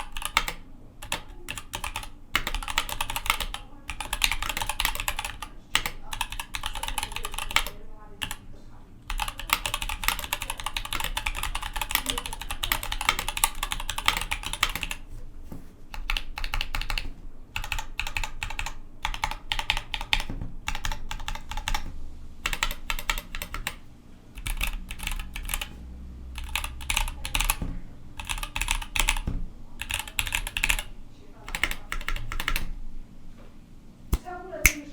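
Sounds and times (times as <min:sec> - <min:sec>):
mechanical keyboard typing: 0:00.0 - 0:15.2, 0:15.9 - 0:32.7.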